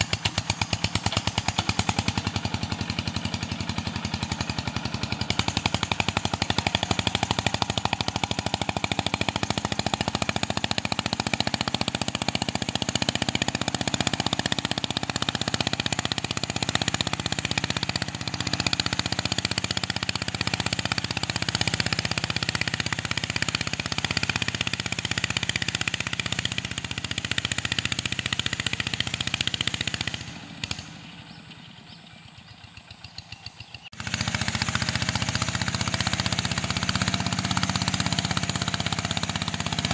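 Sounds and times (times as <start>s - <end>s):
diesel engine popping exhaust: 0.0s - 39.9s.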